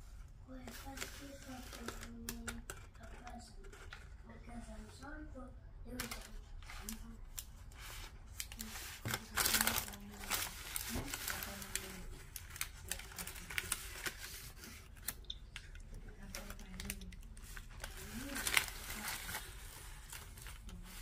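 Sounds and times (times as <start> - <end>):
paper wrapping crinkling: 0.5 - 4.2, 5.9 - 21.0.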